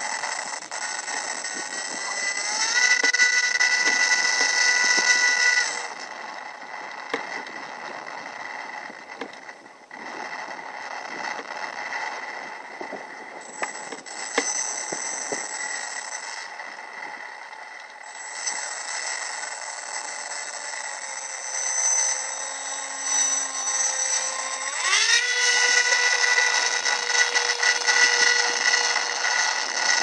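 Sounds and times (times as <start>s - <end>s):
electric motor whining: 0.0s - 30.0s.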